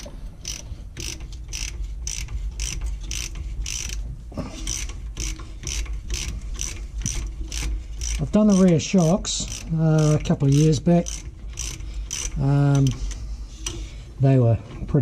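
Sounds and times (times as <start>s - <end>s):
ratchet wrench clicking: 0.0s - 4.0s, 4.6s - 13.8s.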